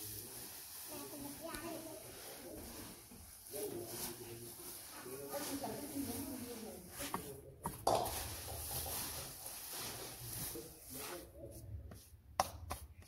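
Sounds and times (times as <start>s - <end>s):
hands rustling green fodder: 0.0s - 11.7s.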